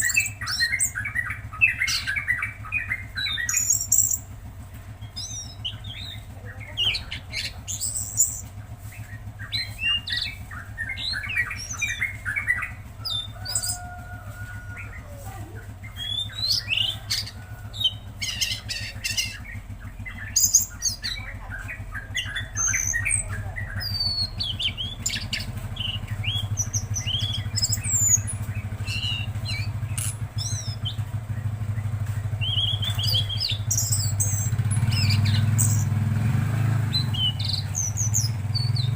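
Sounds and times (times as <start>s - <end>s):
bird singing chirps and trills: 0.0s - 38.9s
low hum: 0.0s - 38.9s.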